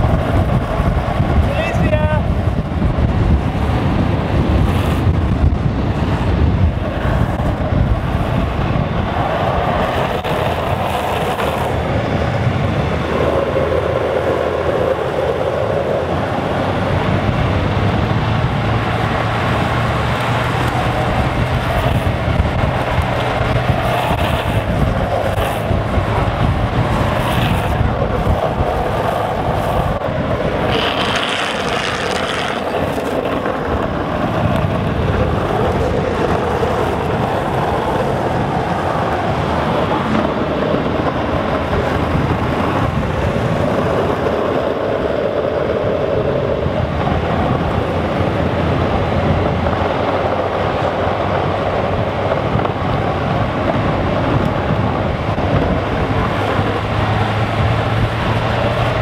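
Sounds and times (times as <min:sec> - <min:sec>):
road noise: 0:00.0 - 0:59.0
wheels sliding on asphalt: 0:00.0 - 0:59.0
wind rushing over microphone: 0:00.0 - 0:59.0.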